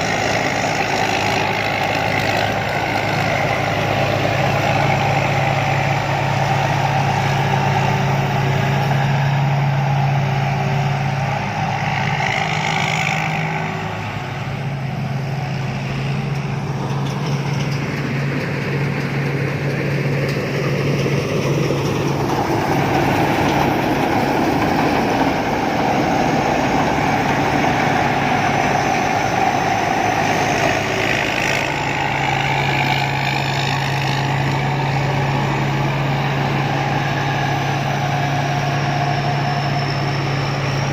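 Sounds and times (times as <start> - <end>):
combine harvester engine humming: 0.0 - 40.9.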